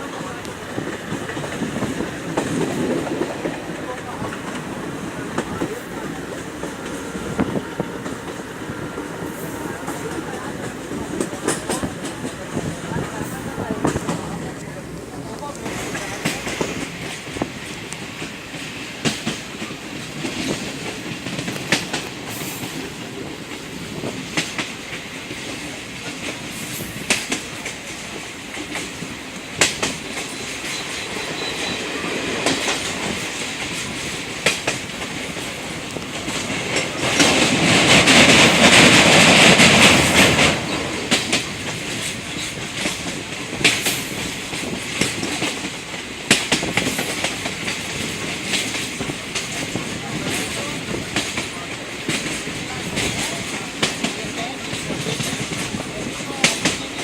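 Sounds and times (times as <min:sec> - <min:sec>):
rushing train noise: 0:00.0 - 0:57.0
train rumble: 0:00.0 - 0:57.0
wheels clacking over rail joints: 0:00.0 - 0:57.0.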